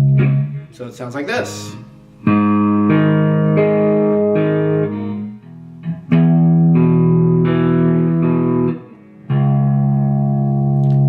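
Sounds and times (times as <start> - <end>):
guitar playing a riff: 0.0 - 11.0.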